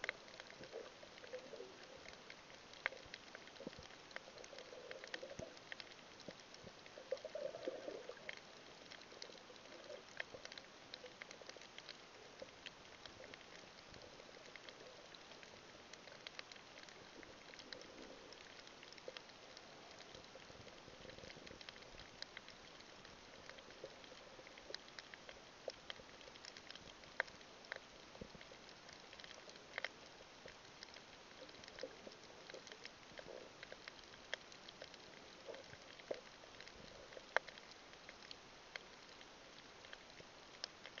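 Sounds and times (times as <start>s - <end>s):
muffled underwater hiss: 0.0s - 41.0s
sharp crackling clicks: 0.0s - 41.0s
soft low gurgles: 0.0s - 41.0s.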